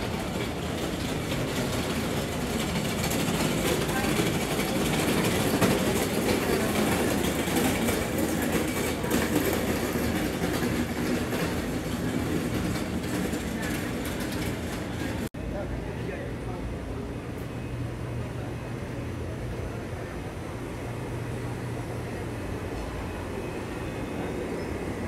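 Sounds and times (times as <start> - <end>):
low rumbling street noise: 0.0 - 25.0.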